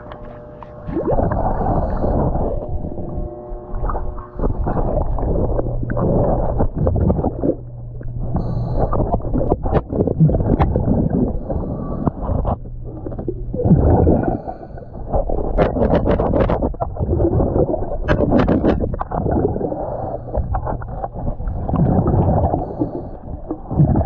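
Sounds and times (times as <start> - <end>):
low steady hum: 0.0 - 24.0
regulator exhaust bubbles gurgling: 0.0 - 24.0.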